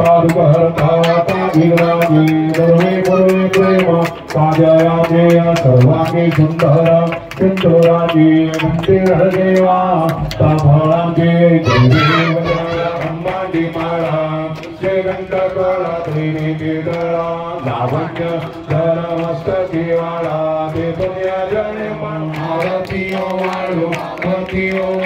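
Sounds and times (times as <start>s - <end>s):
man chanting over loudspeaker: 0.0s - 25.0s.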